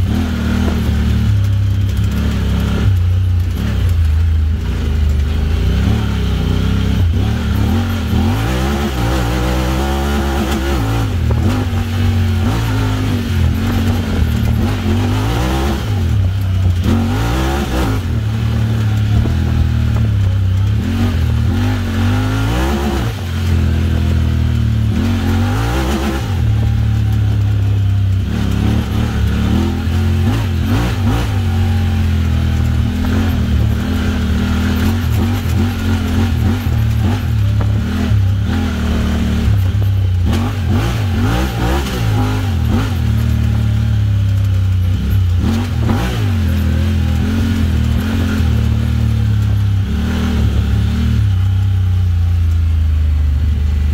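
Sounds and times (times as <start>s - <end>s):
engine revving: 0.0s - 53.9s.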